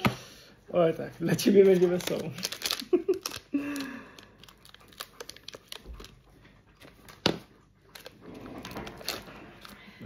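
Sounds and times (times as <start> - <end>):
packaging crinkling: 1.2 - 10.0.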